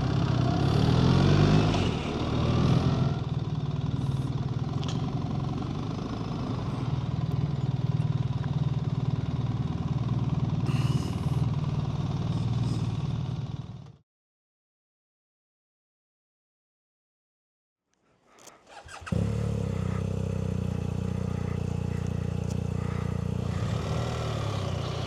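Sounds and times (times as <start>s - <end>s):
motorcycle engine running at low revs: 0.0s - 14.0s, 18.8s - 25.0s.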